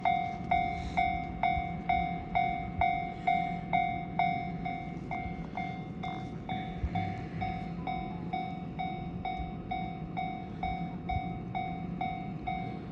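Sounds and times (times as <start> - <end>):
level crossing alarm ringing: 0.0 - 12.9.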